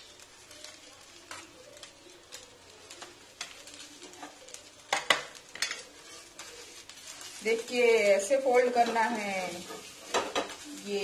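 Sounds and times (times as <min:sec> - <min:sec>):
crepe sizzling in pan: 0:00.0 - 0:11.0.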